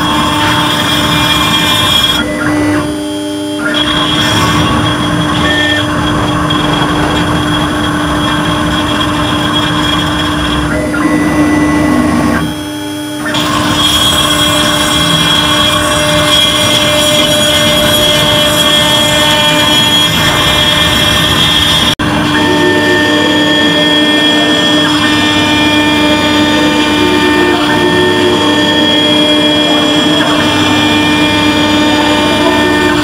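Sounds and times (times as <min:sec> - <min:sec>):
engraving bit rasping metal: 0:00.0 - 0:03.0, 0:03.6 - 0:12.6, 0:13.2 - 0:33.0
router spindle tone: 0:00.0 - 0:33.0.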